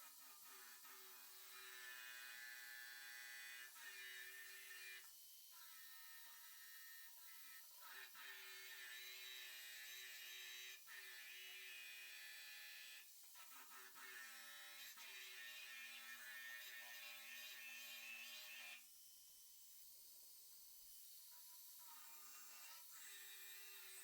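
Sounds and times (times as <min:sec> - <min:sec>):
electric power tool motor whine: 0:00.1 - 0:24.0.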